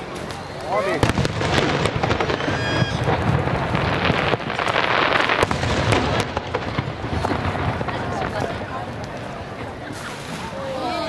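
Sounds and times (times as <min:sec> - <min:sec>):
fireworks crackling: 0:00.0 - 0:11.0
fireworks bangs: 0:00.2 - 0:10.6.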